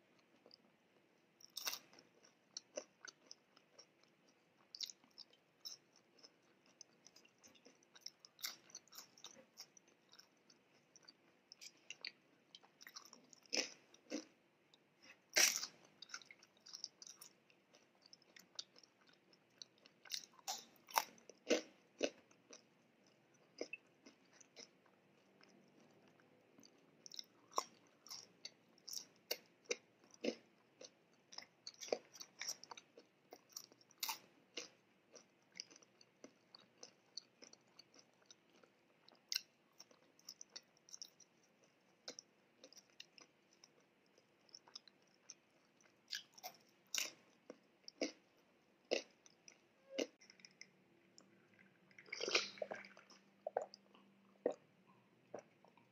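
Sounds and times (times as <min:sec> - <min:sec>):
chewing and biting food: 0:01.4 - 0:14.4, 0:15.0 - 0:55.9.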